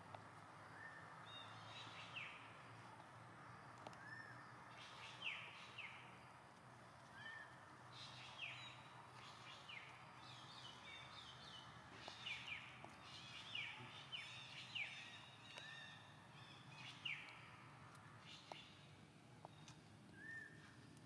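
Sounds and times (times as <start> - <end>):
birds chirping faintly: 0.1 - 21.0.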